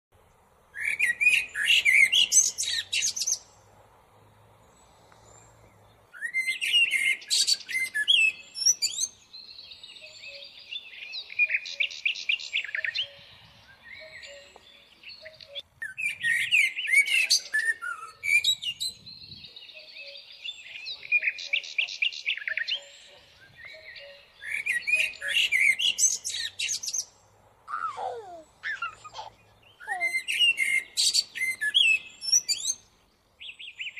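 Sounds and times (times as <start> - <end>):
small birds chirping and singing: 0.2 - 33.9.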